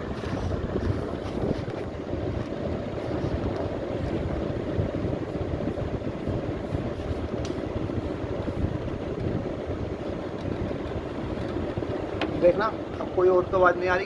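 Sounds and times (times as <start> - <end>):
window air conditioner humming: 0.0 - 14.0.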